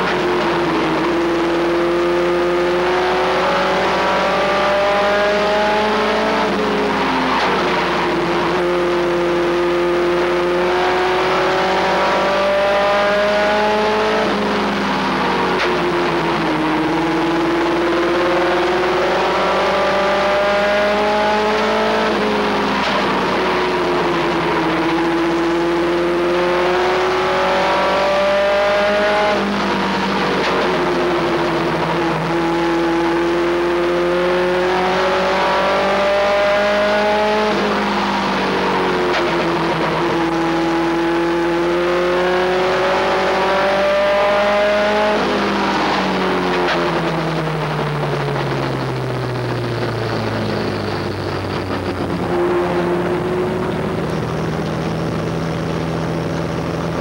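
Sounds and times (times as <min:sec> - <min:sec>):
race truck engine: 0:00.0 - 0:57.0.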